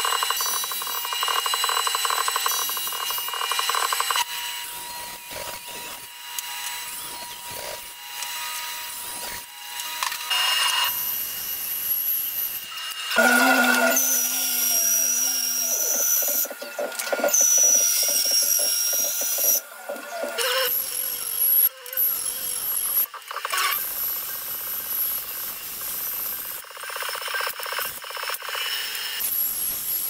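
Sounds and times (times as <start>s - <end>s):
bandsaw cutting wood: 0.0s - 26.5s.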